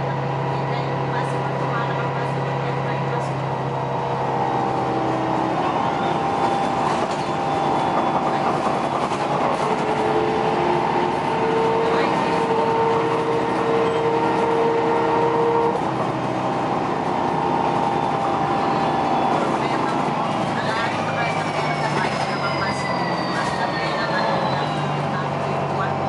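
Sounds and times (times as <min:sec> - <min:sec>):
bus engine and road noise: 0:00.0 - 0:26.0.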